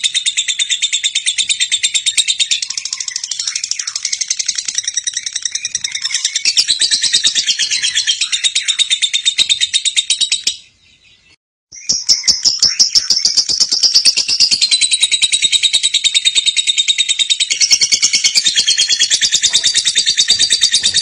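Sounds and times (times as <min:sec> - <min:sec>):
bird chattering trill: 0:00.0 - 0:10.7, 0:11.7 - 0:21.0.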